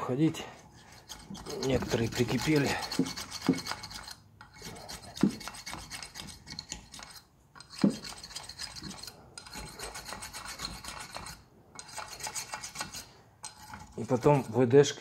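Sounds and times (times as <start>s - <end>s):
bolt rasping in threads: 0.7s - 14.6s.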